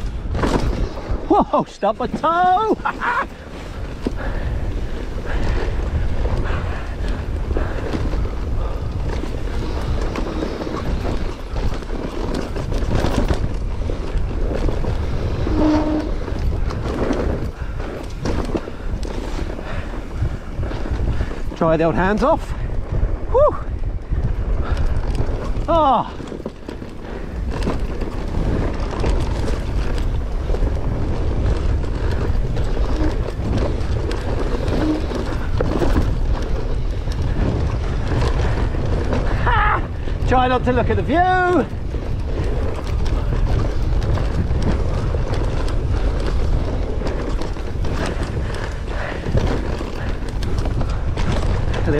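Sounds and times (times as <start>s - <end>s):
bike rattling: 0.0s - 51.9s
tyres skidding over dirt and rock: 0.0s - 51.9s
wind rumble on microphone: 0.0s - 51.9s.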